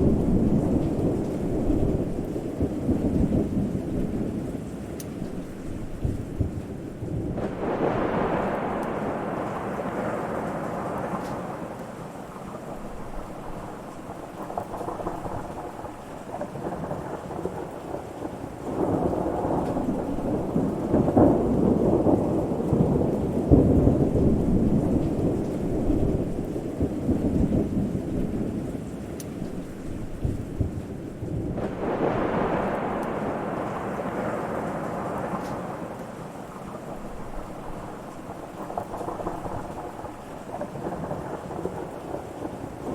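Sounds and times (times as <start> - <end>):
rolling thunder: 0.0 - 42.9
steady rain: 0.0 - 42.9.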